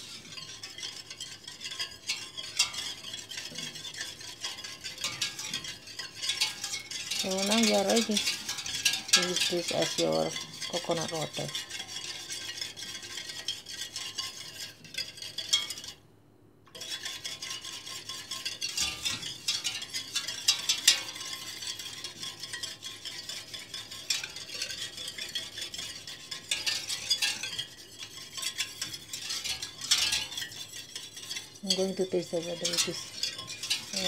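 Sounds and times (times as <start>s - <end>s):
whisk clicking against metal pot: 0.0s - 16.0s, 16.7s - 34.0s
wire whisk swishing through water: 0.0s - 16.0s, 16.8s - 34.0s.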